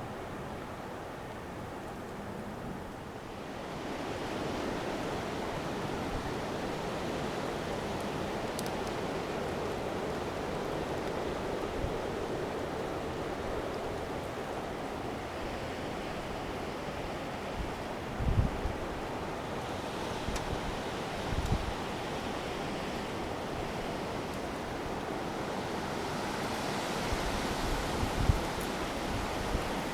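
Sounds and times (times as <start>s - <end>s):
rushing coastal storm: 3.5s - 29.9s.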